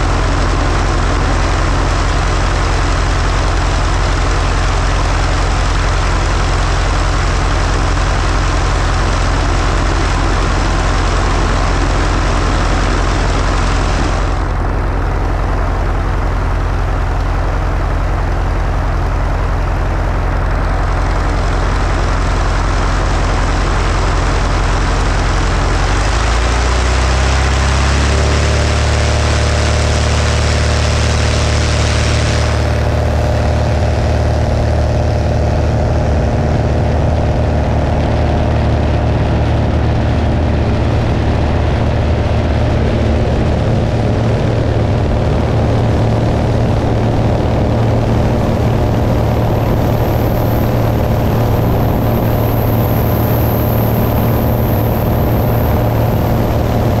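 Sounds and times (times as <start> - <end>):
propeller aircraft engine: 0.0 - 57.0.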